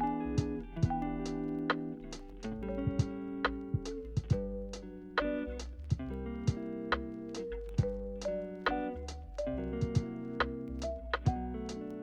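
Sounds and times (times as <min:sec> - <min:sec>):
plucked guitar music with beat: 0:00.0 - 0:12.0.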